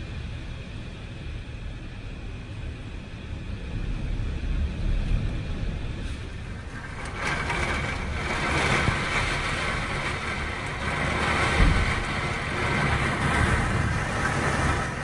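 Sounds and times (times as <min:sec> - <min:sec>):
gusting wind rumble: 0:00.0 - 0:15.0
heavy rain hiss: 0:01.6 - 0:15.0.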